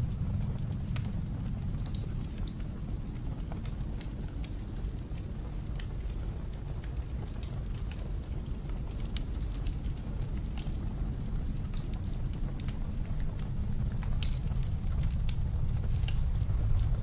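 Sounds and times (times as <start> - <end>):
blizzard wind rumbling: 0.0 - 17.0
wood fire crackling: 0.0 - 17.0.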